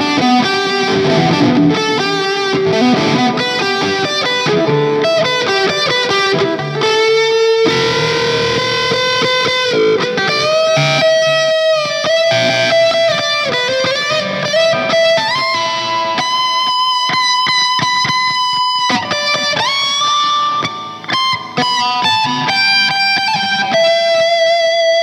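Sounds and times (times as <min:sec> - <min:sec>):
electric guitar lead solo: 0:00.0 - 0:25.0.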